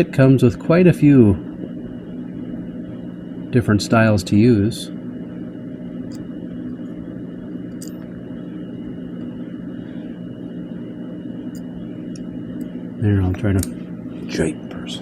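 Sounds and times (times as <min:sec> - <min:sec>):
faint high whine: 0:00.0 - 0:15.0
low mechanical hum: 0:00.0 - 0:15.0.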